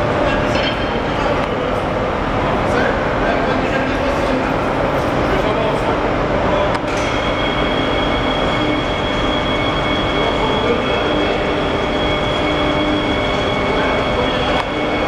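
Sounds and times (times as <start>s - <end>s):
handling machinery running: 0.0s - 15.0s
thin high whine: 0.0s - 15.0s.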